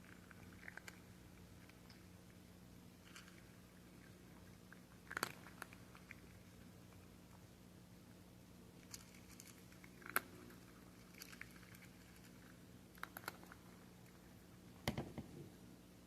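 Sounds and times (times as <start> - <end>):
cats crunching dry kibble: 0.0 - 7.5, 8.7 - 14.6
faint steady hum: 0.0 - 16.0.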